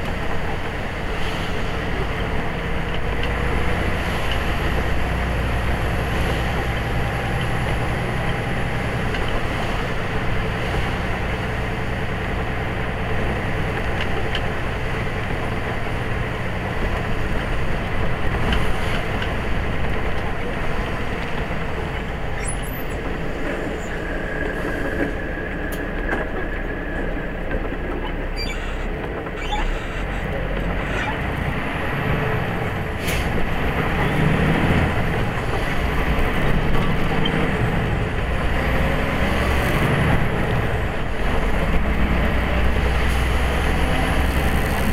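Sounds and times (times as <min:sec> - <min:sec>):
large vehicle engine: 0:00.0 - 0:44.9
tyres on wet road: 0:00.0 - 0:44.9.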